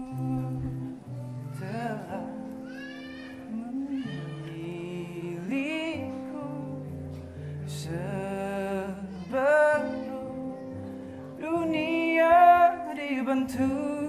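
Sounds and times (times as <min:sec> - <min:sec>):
acoustic guitar: 0:00.0 - 0:14.0
man singing slow song: 0:00.0 - 0:14.0.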